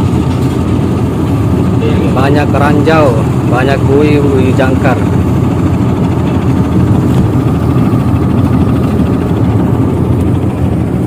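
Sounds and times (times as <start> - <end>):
tugboat engine rumbling: 0.0 - 11.0.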